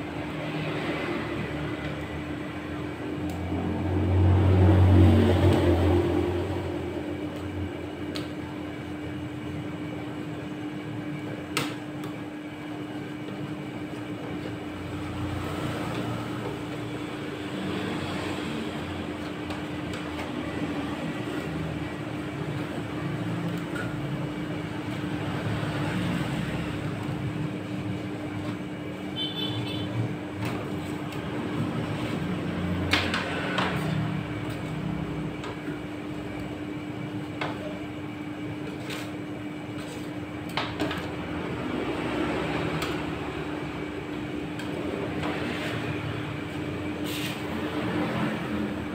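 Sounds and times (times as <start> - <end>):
refrigeration unit humming: 0.0 - 48.9.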